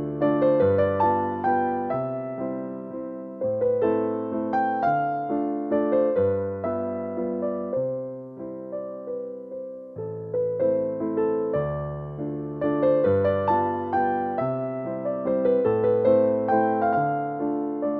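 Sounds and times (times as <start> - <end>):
gentle piano-like keyboard piece: 0.0 - 17.9.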